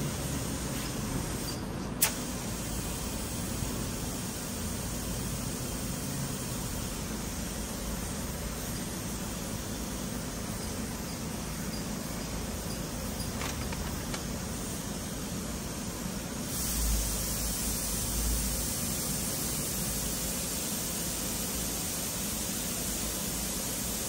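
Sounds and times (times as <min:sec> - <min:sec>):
paint spray gun hissing: 0:00.5 - 0:24.0.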